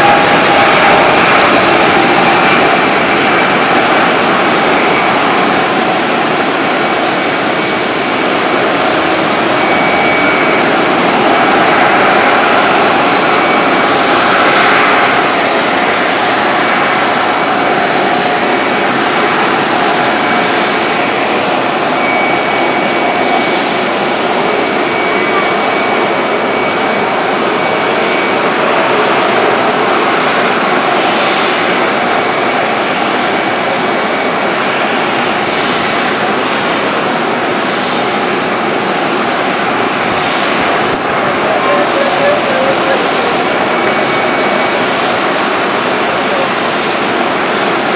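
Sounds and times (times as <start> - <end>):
jet engines whining: 0.0 - 47.9.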